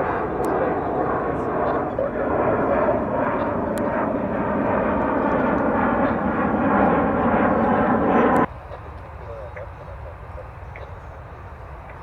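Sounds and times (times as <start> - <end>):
jet engines taking off: 0.0 - 12.0.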